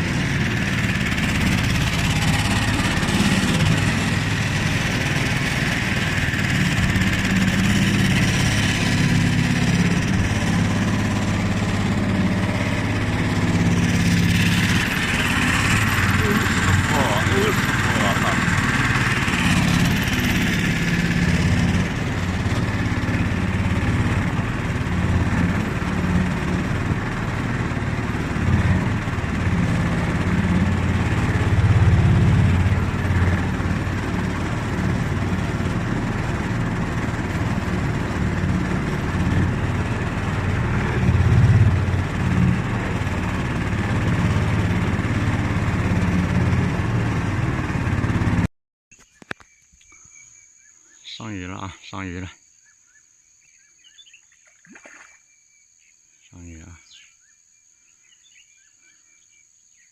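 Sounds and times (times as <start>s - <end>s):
engine running with low rumble: 0.0s - 48.5s.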